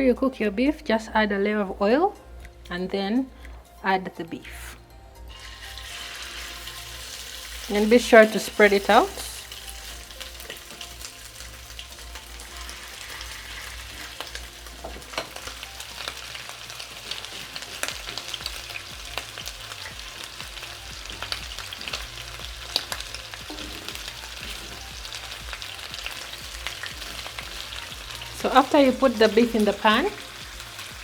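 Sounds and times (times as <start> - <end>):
meat sizzling in hot oil: 5.3 - 31.0.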